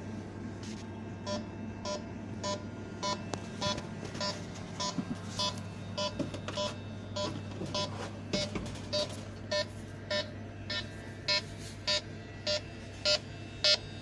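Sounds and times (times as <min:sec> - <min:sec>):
low steady hum: 0:00.0 - 0:14.0
leak detector beeping: 0:01.2 - 0:14.0.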